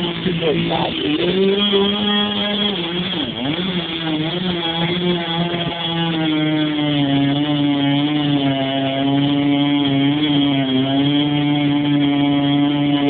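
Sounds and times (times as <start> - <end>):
chainsaw engine running at high speed: 0.0 - 13.0.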